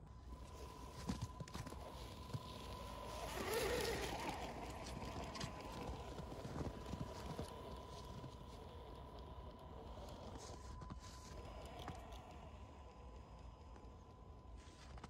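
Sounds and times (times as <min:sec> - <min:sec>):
electric motor whine: 0:00.0 - 0:15.0
tyres crunching snow: 0:00.1 - 0:12.6.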